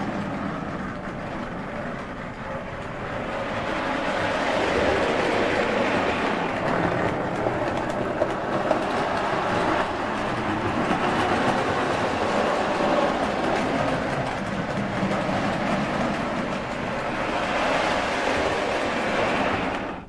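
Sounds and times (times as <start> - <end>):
wheels rolling over rails: 0.0 - 20.0.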